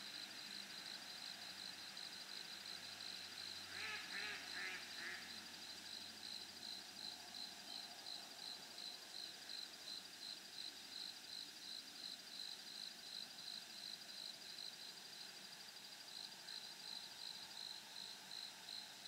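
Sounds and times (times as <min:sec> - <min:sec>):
faint outdoor background noise: 0:00.0 - 0:19.0
insect chirping: 0:00.0 - 0:19.0.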